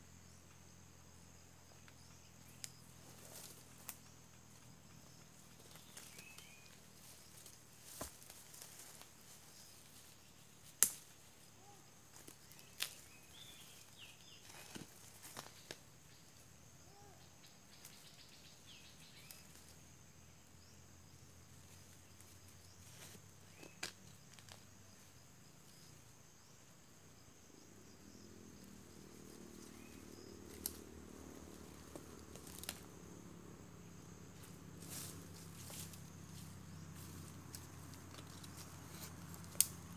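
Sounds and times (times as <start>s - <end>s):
dry leaves and twigs crackling: 1.6s - 26.4s, 28.1s - 39.9s.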